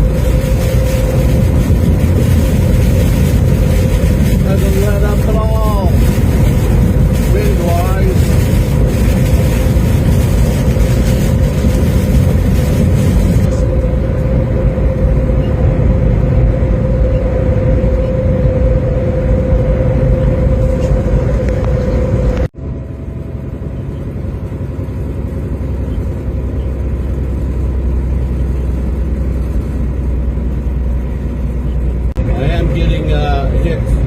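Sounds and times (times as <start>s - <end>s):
steady hum: 0.0s - 34.0s
vehicle road and engine noise: 0.0s - 34.0s.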